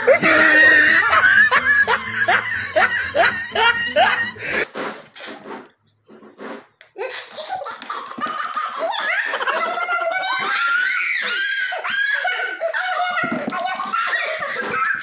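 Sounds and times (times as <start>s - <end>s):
children and woman laughing: 0.0s - 4.7s, 7.0s - 15.0s.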